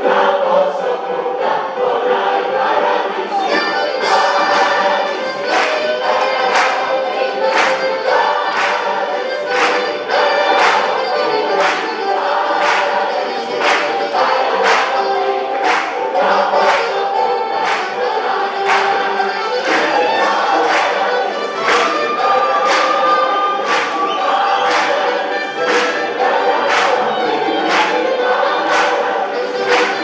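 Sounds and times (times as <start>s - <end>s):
large choir singing: 0.0s - 30.0s.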